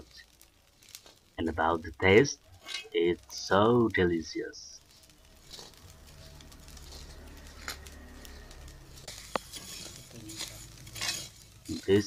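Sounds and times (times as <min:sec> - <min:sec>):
grains pattering and scraping on pan: 0:00.0 - 0:12.0
spatula stirring grains in a pan: 0:00.0 - 0:12.0.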